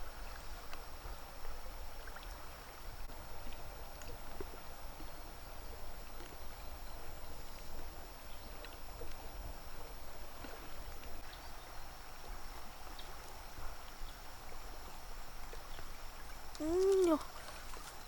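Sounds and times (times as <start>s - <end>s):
water lapping and splashing: 0.0s - 18.0s.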